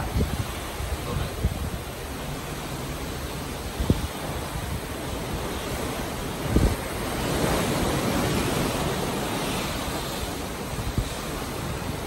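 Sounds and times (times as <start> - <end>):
rough sea rushing along hull: 0.0 - 12.0
wind on microphone: 0.0 - 12.0.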